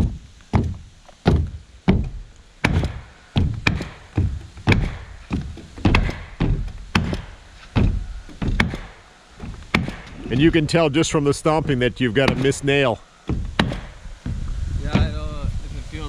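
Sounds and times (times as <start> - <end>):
boots stomping on roof sheathing: 0.0 - 15.2.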